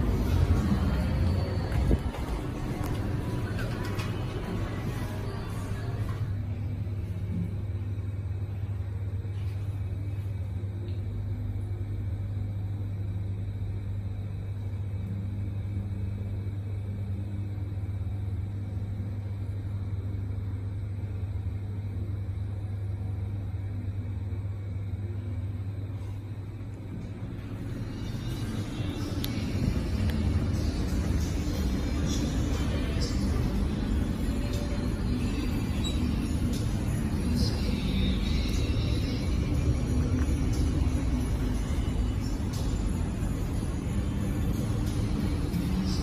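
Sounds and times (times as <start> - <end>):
elevator low hum: 0.0 - 46.0.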